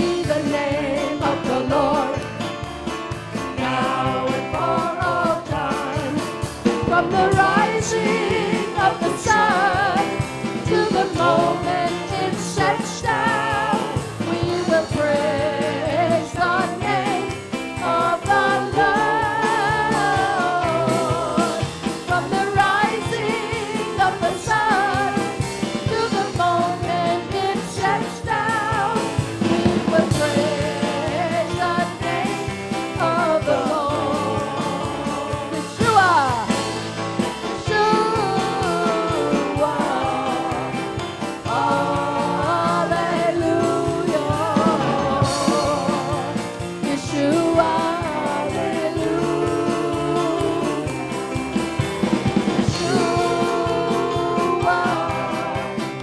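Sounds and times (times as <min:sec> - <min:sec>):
people singing: 0:00.0 - 0:56.0
worship band playing: 0:00.0 - 0:56.0.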